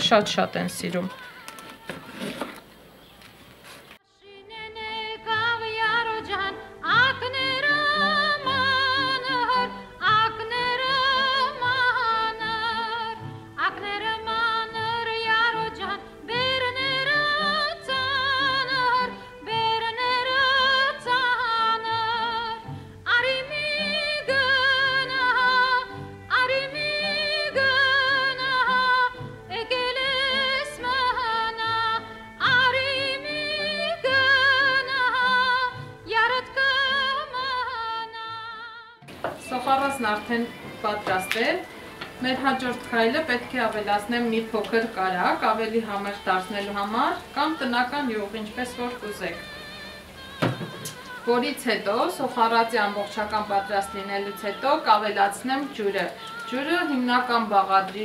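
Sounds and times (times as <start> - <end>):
woman singing with vibrato: 0.0 - 2.7, 4.0 - 58.0.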